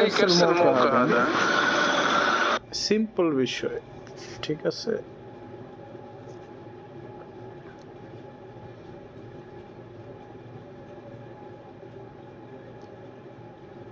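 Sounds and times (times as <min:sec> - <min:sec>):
machine hum and hiss: 0:00.0 - 0:13.9.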